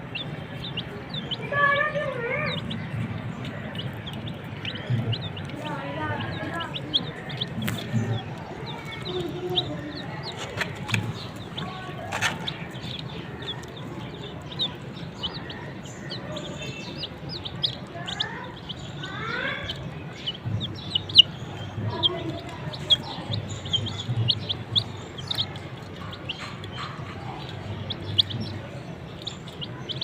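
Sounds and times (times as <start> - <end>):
chicks peeping: 0.0 - 30.0.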